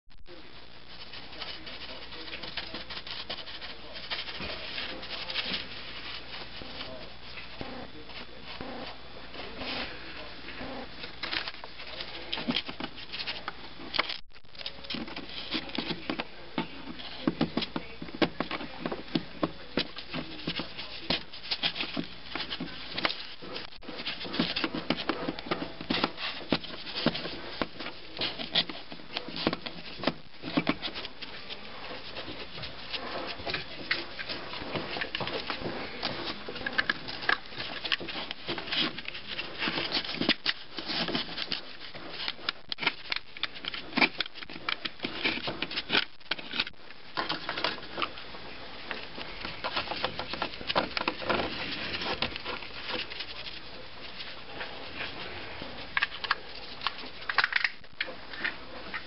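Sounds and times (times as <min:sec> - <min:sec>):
hand rubbing and scraping surface: 0:00.4 - 0:13.9, 0:14.8 - 0:57.4.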